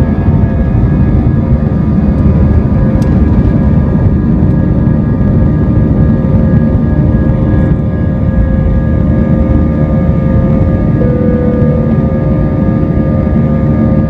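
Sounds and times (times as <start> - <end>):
engine whining tones: 0.0 - 14.0
jet engines rumbling in cabin: 0.0 - 14.0.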